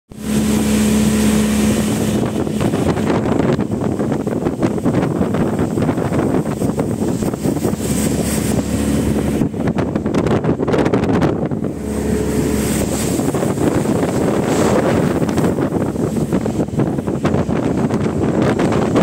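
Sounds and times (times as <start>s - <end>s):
outboard motor running: 0.1s - 19.0s
wind buffeting microphone: 0.1s - 19.0s.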